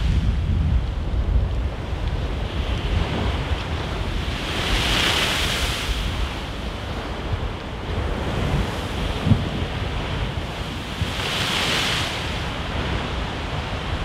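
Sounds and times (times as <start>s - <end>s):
wind buffeting the microphone: 0.0s - 14.0s
waves breaking against a seawall: 2.2s - 14.0s.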